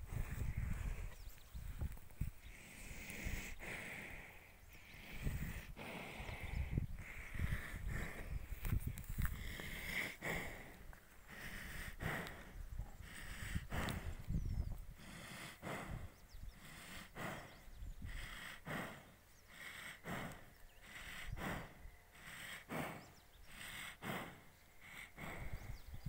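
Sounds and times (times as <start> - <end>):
slow breathing: 0.0 - 26.0.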